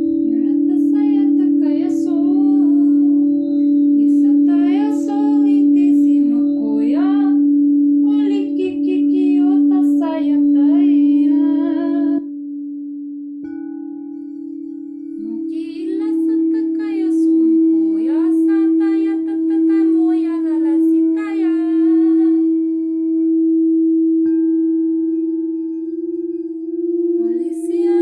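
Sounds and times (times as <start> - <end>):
bowl struck with a mallet: 0.0 - 19.1, 19.7 - 28.0
singing bowls ringing: 0.0 - 28.0.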